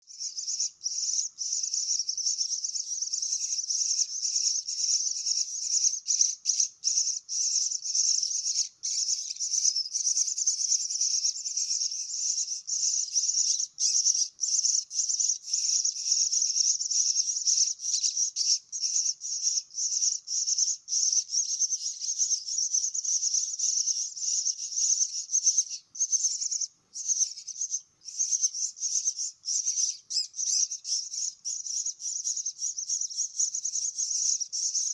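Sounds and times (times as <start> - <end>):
nestling birds begging chatter: 0.0 - 34.9.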